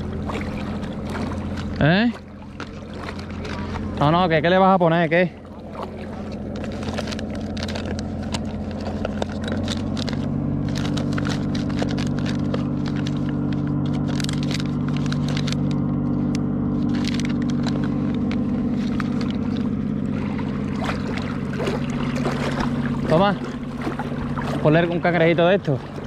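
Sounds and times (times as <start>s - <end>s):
fishing tackle rattling: 0.0s - 4.3s, 5.4s - 15.9s, 16.8s - 26.0s
boat engine drone: 0.0s - 26.0s.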